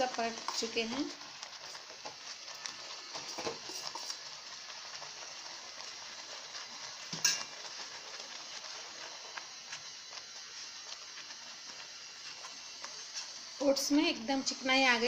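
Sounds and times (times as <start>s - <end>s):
spatula scraping and tapping pan: 0.0s - 13.4s
oats cooking with soft hiss: 0.0s - 15.0s.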